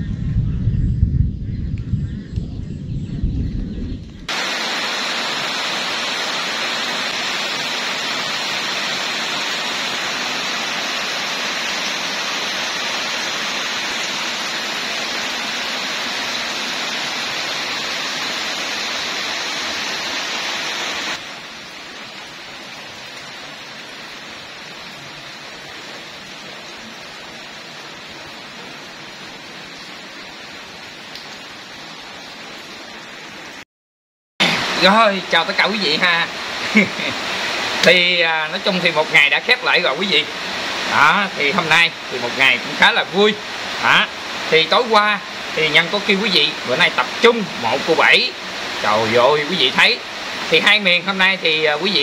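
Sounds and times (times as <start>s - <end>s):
heavy rain falling: 3.5s - 33.6s, 34.4s - 52.0s.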